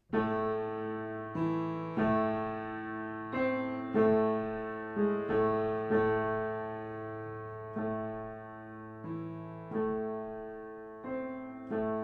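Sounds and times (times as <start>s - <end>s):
piano chords ringing: 0.0s - 12.0s.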